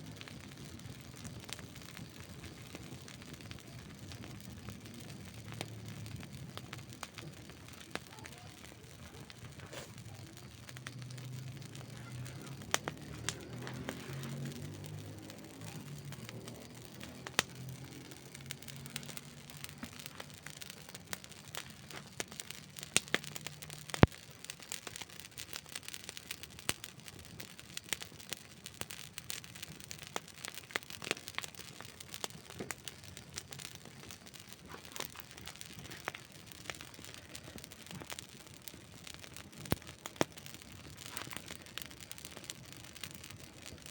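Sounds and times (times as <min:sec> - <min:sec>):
burning wood popping and snapping: 0:00.0 - 0:43.9
campfire crackling: 0:00.0 - 0:43.9.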